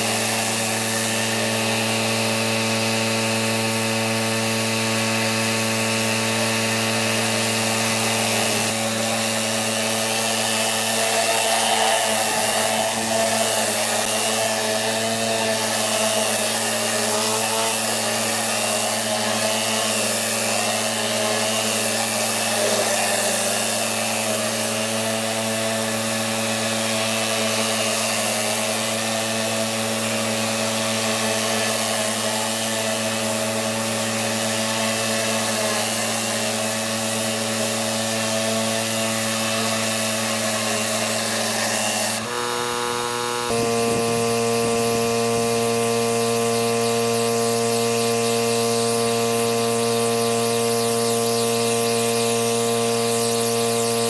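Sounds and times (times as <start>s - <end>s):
pressure washer motor hum: 0.0s - 54.0s.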